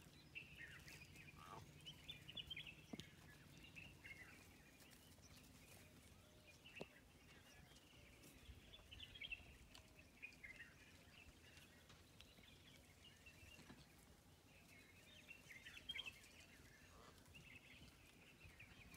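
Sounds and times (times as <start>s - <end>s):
faint birdsong: 0.0s - 18.9s
quiet forest ambience: 0.0s - 18.9s.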